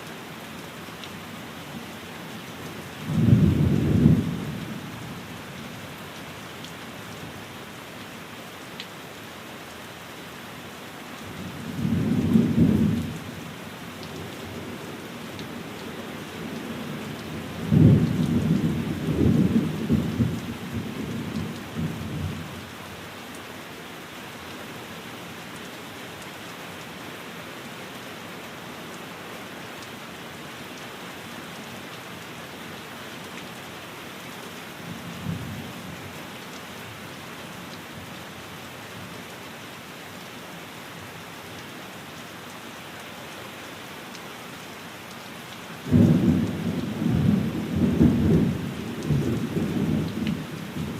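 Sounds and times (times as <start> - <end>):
rain on a window: 0.0 - 50.9.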